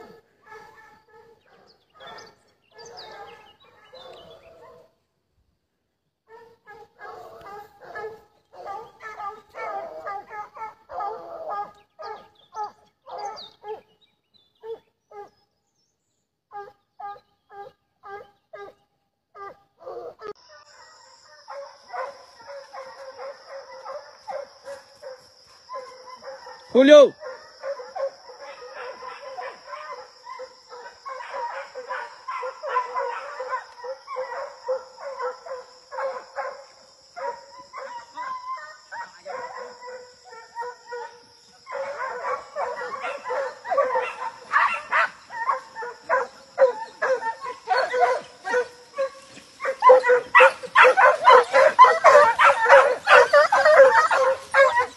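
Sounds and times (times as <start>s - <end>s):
hound baying: 0.0s - 4.9s, 6.3s - 13.9s, 16.5s - 54.9s.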